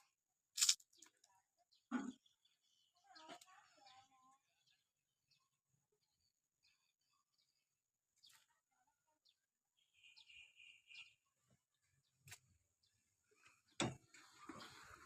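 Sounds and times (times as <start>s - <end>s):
faint bird chirps: 0.9s - 15.0s.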